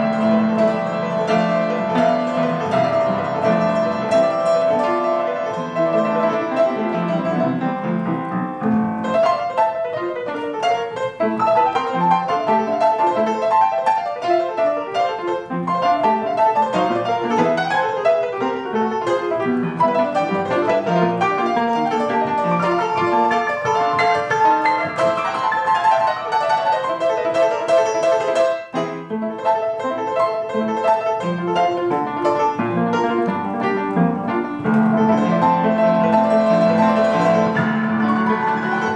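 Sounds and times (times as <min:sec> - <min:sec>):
solo piano music: 0:00.0 - 0:38.9.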